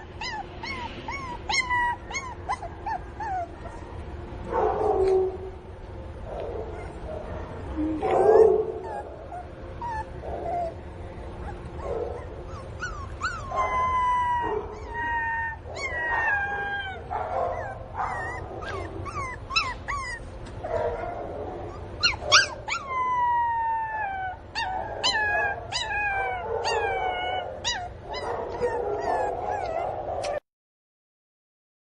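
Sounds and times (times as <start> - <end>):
puppy whimpering and howling: 0.0 - 4.0, 6.6 - 30.4.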